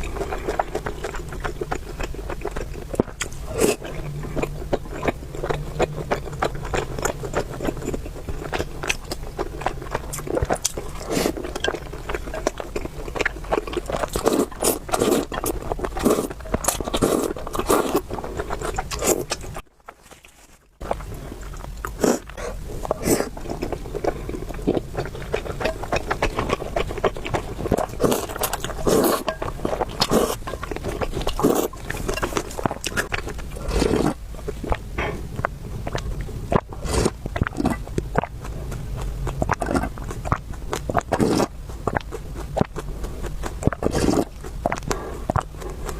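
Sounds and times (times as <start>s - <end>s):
wet chewing and mouth clicks: 0.0s - 45.9s.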